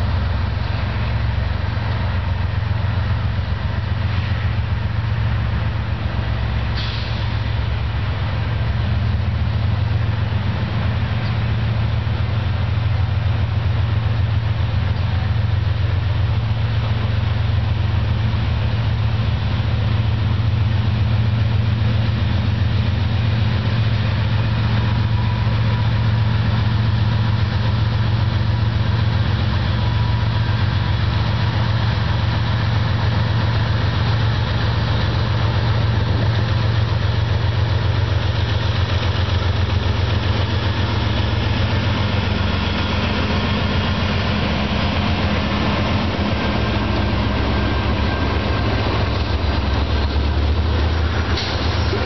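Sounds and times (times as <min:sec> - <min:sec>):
diesel locomotives droning past: 0:00.0 - 0:52.0.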